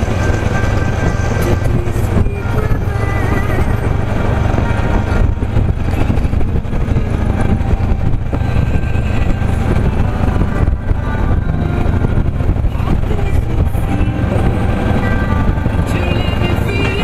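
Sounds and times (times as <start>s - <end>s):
motorcycle engine rumbling: 0.0s - 17.0s
road and wind noise: 0.0s - 17.0s.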